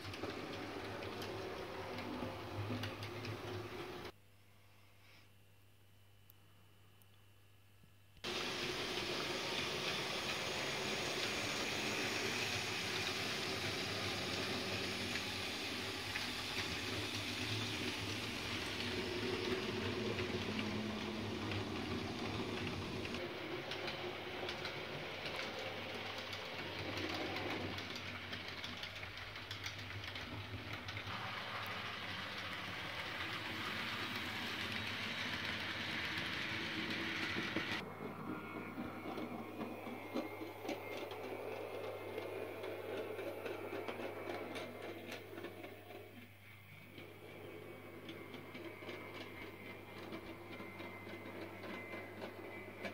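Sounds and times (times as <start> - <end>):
model train whirring on track: 0.0 - 4.1, 8.2 - 52.9.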